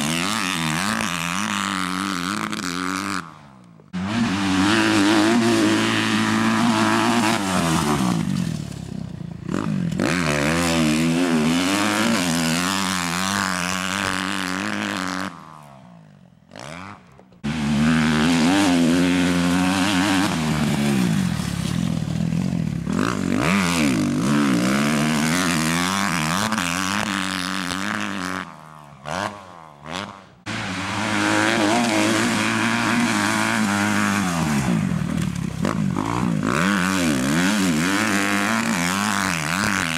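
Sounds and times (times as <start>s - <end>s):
motocross bike revving: 0.0s - 39.9s.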